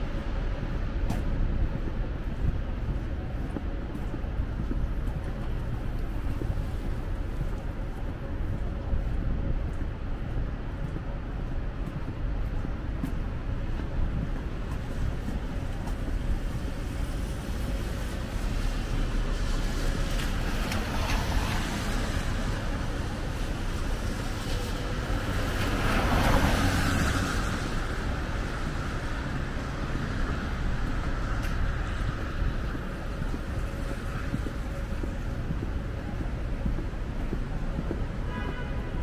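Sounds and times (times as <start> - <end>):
traffic on wet pavement: 0.0 - 39.0.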